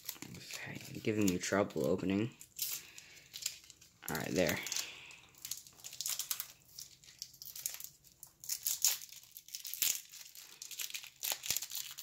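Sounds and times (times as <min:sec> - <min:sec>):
wax-paper wrapper crinkling and tearing: 0:00.0 - 0:12.0.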